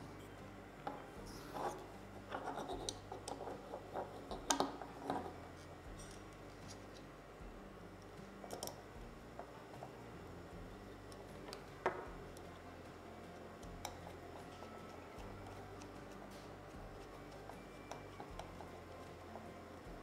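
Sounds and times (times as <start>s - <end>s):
small parts clicking and tapping: 0.8s - 7.1s, 8.0s - 10.0s, 11.1s - 20.0s.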